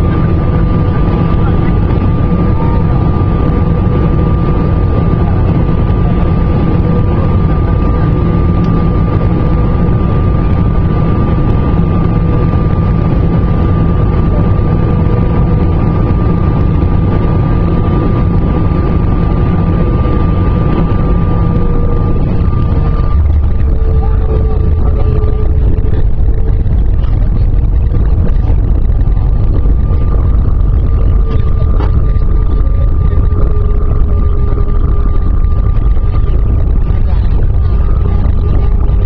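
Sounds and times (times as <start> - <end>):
jet engine high whine: 0.0 - 39.0
jet engines rushing: 0.0 - 39.0.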